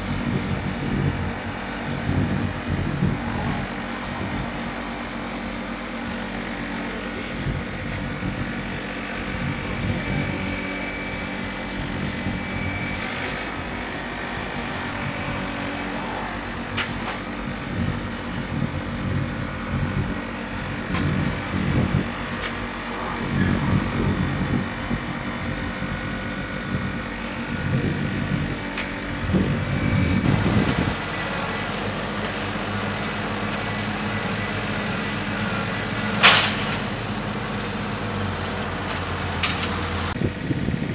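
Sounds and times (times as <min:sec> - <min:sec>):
tractor engine running: 0:00.0 - 0:40.9
wind rumble on microphone: 0:00.0 - 0:40.9.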